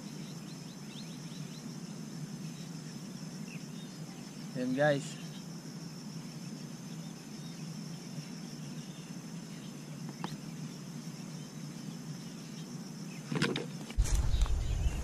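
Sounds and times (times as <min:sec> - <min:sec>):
insect chirring: 0:00.0 - 0:15.0
low outdoor hum: 0:00.0 - 0:15.0.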